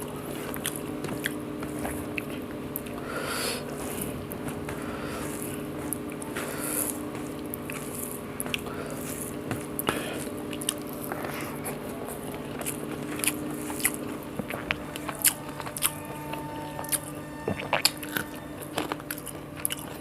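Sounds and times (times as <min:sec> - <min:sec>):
low hum: 0:00.0 - 0:20.0
wet chewing and smacking: 0:00.0 - 0:20.0.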